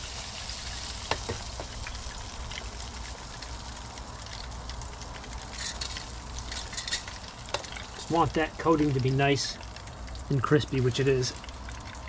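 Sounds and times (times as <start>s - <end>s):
hot oil sizzling and popping: 0.0s - 12.0s.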